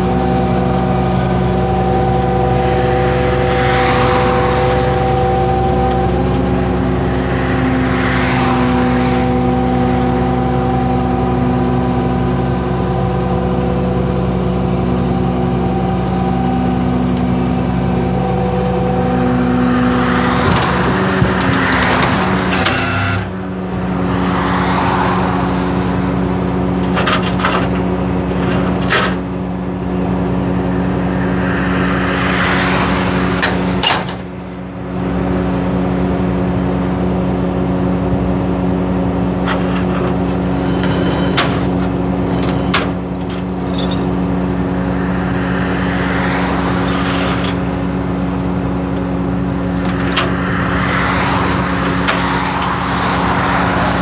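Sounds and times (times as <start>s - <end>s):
highway traffic passing: 0.0s - 54.0s
truck engine idling: 0.0s - 54.0s.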